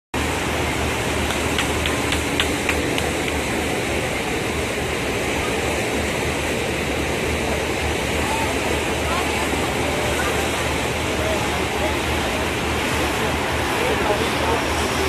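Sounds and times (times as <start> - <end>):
boat engine drone: 0.2 - 15.0
churned water rushing: 0.2 - 15.0.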